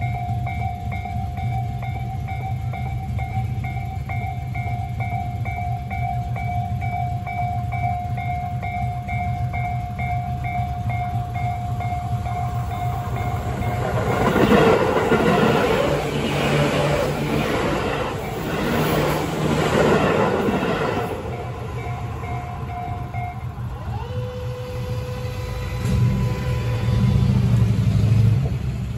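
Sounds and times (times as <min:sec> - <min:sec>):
level crossing alarm bell: 0:00.0 - 0:26.3
train wheels clacking over rail joints: 0:00.0 - 0:28.9.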